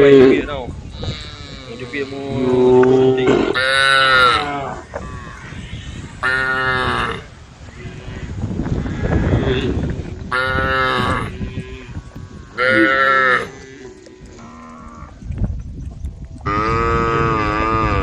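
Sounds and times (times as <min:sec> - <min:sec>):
cattle mooing: 0:00.0 - 0:15.2, 0:16.5 - 0:18.0.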